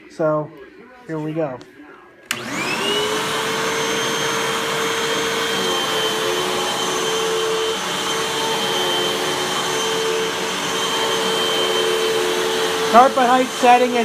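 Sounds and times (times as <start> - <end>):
vacuum cleaner running: 2.3 - 14.0.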